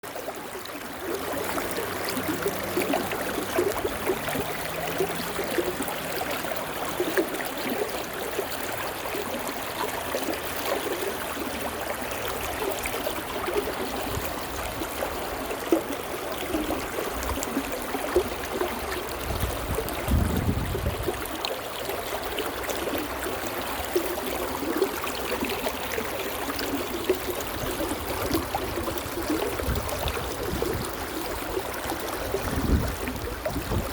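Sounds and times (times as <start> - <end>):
stream babbling over stones: 0.0 - 33.9.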